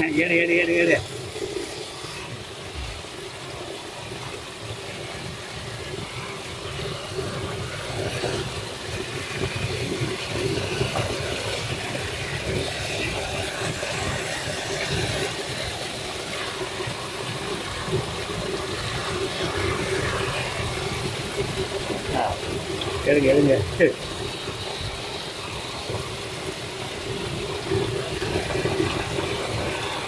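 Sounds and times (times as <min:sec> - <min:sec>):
floodwater pouring and splashing: 0:00.0 - 0:30.0.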